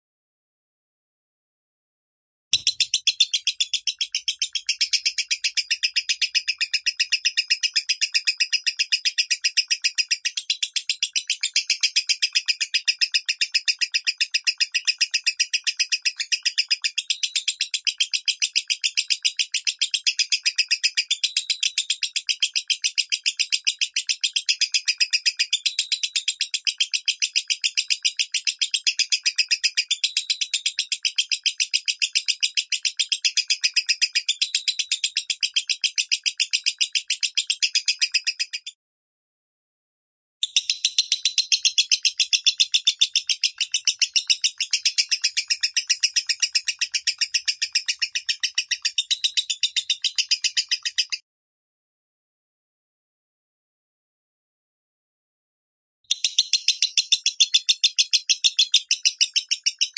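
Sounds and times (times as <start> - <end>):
bird chirping rapidly: 2.5 - 38.7, 40.4 - 51.2, 56.1 - 59.9.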